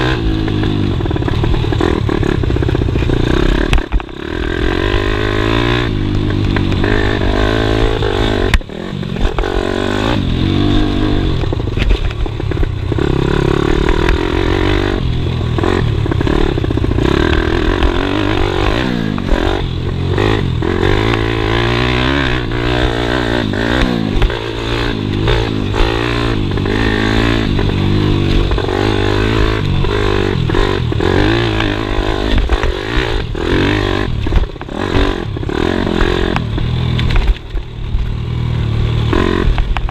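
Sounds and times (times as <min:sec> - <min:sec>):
bike clattering and scraping: 0:00.0 - 0:39.9
motorbike engine revving: 0:00.0 - 0:39.9.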